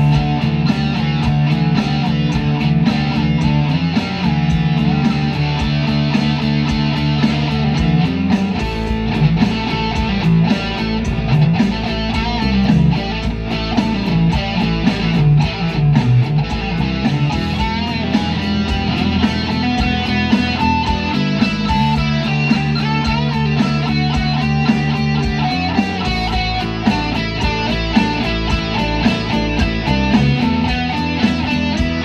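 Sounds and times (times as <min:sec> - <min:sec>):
instrumental guitar music: 0:00.0 - 0:32.0.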